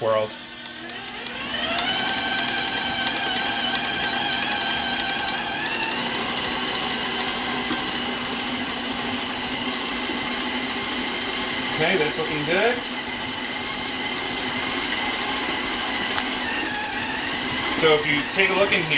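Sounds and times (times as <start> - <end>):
stand mixer motor whine: 0.0 - 18.9.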